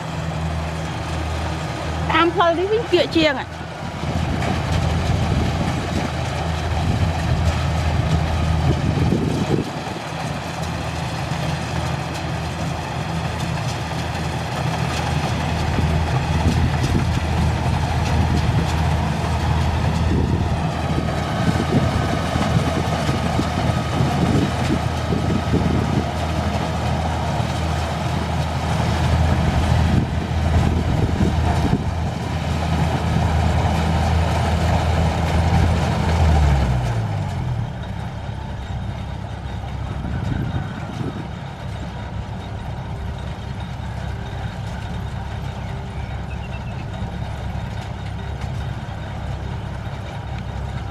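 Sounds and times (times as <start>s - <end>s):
combine harvester diesel engine: 0.0s - 50.9s.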